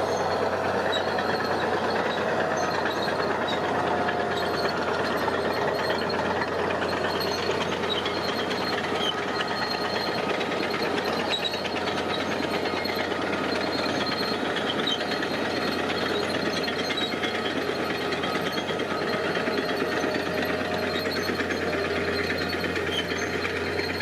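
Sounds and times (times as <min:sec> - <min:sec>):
diesel engine clattering: 0:00.0 - 0:24.0.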